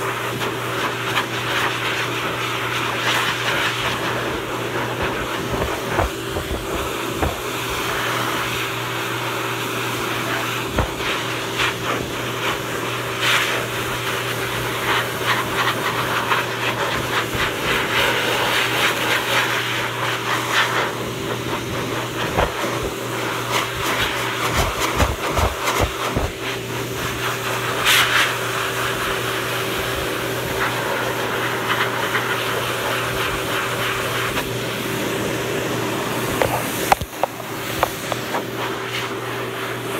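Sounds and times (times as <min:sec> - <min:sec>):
blow dryer air hiss and motor hum: 0:00.0 - 0:39.9.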